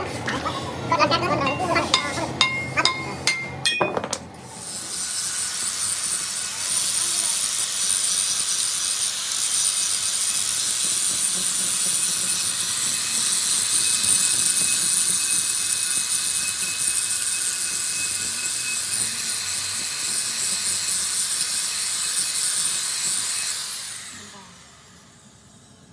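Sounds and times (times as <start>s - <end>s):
workshop tool hissing and whining: 4.4s - 25.9s.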